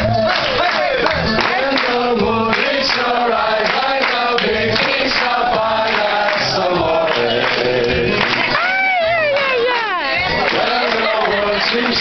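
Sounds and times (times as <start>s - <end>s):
music with singing voices: 0.0s - 12.0s.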